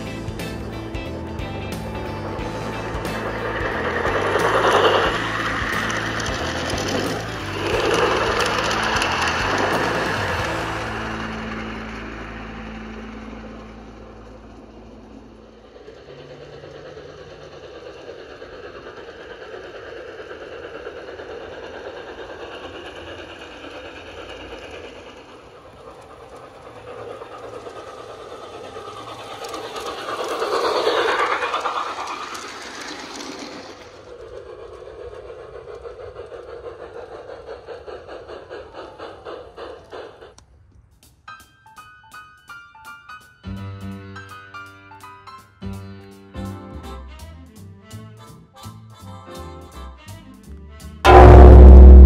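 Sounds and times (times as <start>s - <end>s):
wheels clicking over rail joints: 0.0s - 51.0s
freight train rumble and clatter: 0.0s - 52.0s.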